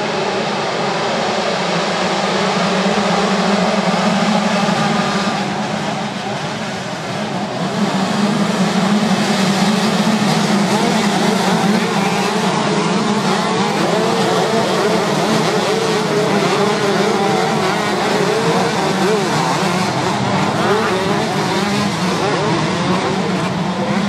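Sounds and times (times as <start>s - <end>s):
motocross bikes racing: 0.0s - 24.0s.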